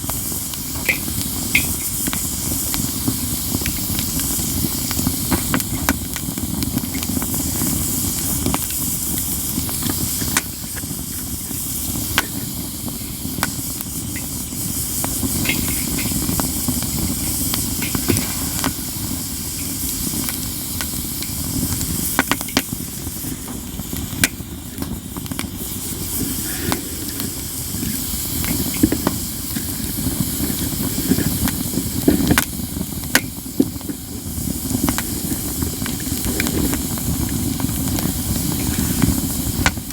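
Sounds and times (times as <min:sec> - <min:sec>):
campfire crackling and popping: 0:00.0 - 0:39.9
fire rushing and hissing: 0:00.0 - 0:39.9.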